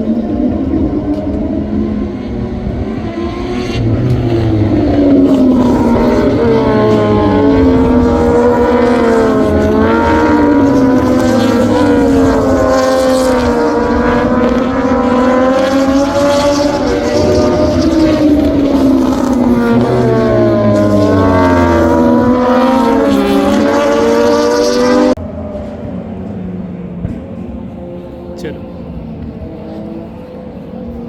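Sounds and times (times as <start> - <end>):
racing motorcycle engines revving: 0.0 - 31.0.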